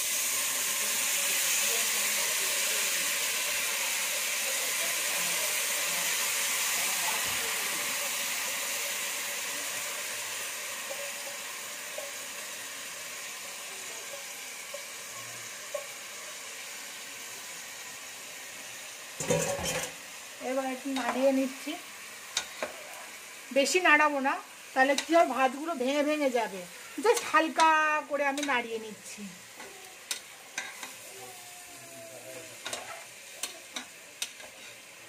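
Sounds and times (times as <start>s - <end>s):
hot liquid hissing and bubbling: 0.0s - 35.0s.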